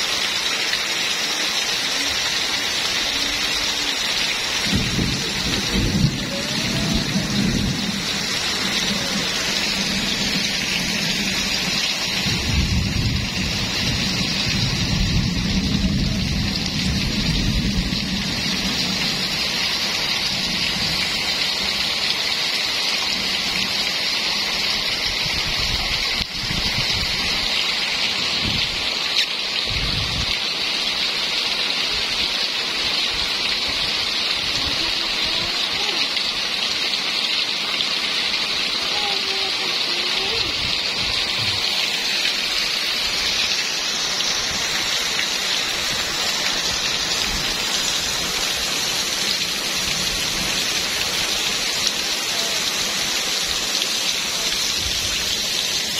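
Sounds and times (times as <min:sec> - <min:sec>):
heavy rain pattering: 0:00.0 - 0:55.9.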